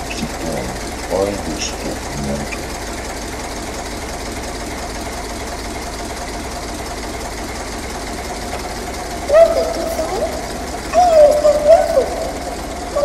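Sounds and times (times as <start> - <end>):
mechanical engine running: 0.0 - 13.0.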